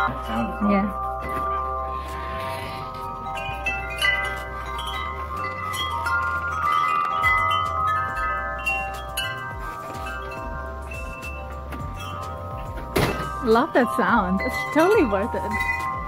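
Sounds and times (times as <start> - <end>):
metal wind chimes ringing: 0.0 - 16.0.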